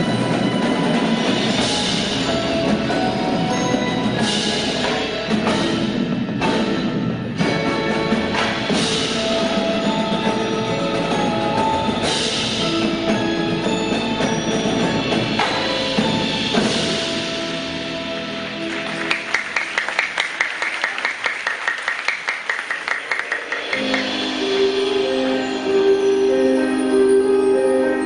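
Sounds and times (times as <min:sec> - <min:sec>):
mallet keyboard notes: 0:00.0 - 0:18.8, 0:23.3 - 0:28.0
fast percussion strokes: 0:00.0 - 0:27.4.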